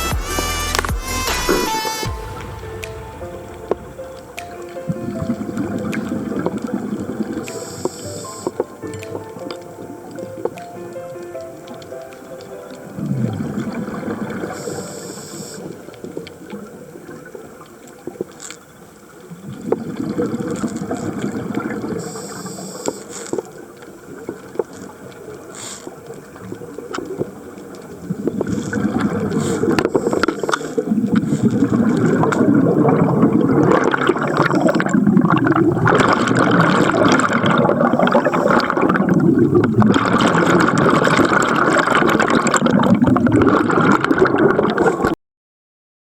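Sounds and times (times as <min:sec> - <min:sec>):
underwater bubbling: 0:00.7 - 0:45.2.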